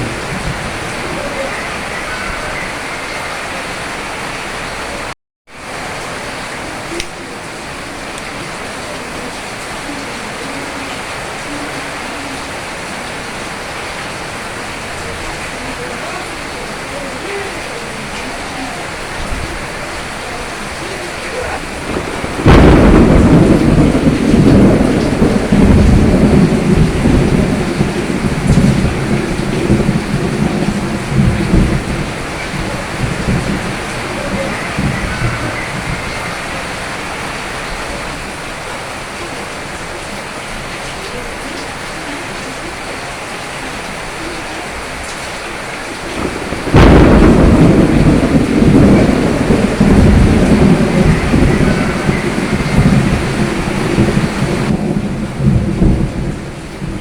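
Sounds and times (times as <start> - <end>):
thunderclap with rumble: 0.0 - 5.1, 6.6 - 57.0
steady rain: 0.0 - 57.0.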